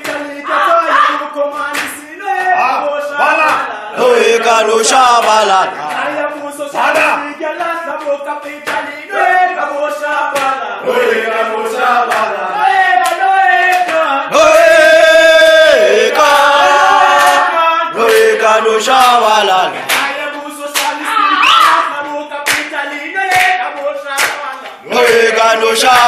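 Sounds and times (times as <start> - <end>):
sharp rhythmic knocks: 0.0 - 0.6, 1.3 - 21.0, 21.9 - 26.0
group of voices chanting: 0.0 - 7.7, 8.4 - 26.0.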